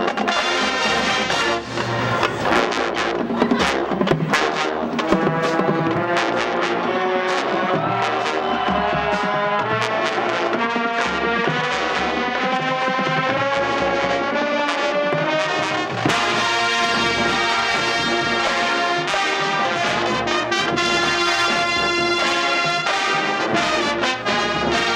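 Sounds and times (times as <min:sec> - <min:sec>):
marching band playing: 0:00.0 - 0:24.9
brass sustaining chords: 0:00.2 - 0:24.9.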